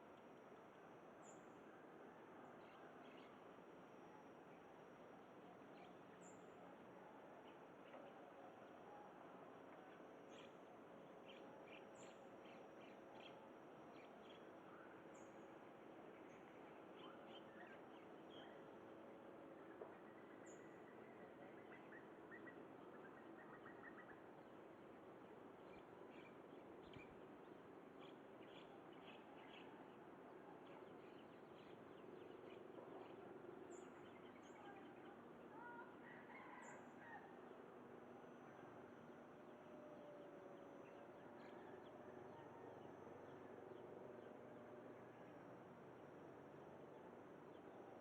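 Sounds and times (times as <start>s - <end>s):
faint bird calls and chirps: 0.0s - 25.0s, 25.6s - 45.5s.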